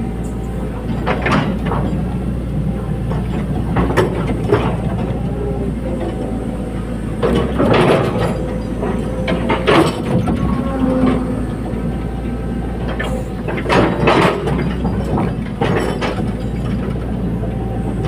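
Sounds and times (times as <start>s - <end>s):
excavator diesel drone: 0.0s - 18.0s
metal clanks and squeals: 2.8s - 18.0s.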